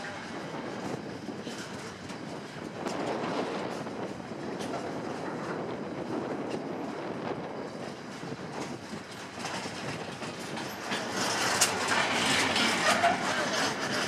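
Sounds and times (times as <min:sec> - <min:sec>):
train wheels clicking over rail joints: 0:00.2 - 0:14.0.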